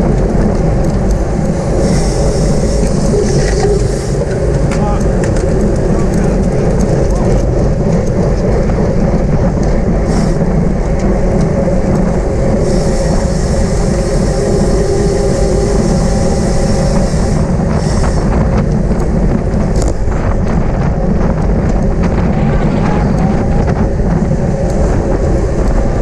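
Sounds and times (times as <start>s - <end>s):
bicycle tyre and road noise: 0.0s - 26.0s
wind rush on microphone: 0.0s - 26.0s.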